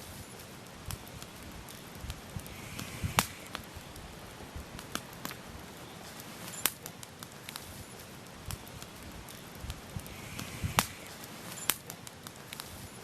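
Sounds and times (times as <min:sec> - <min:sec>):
burning logs popping and snapping: 0:00.0 - 0:13.0
campfire crackling: 0:00.0 - 0:13.0
fire hissing: 0:00.0 - 0:13.0.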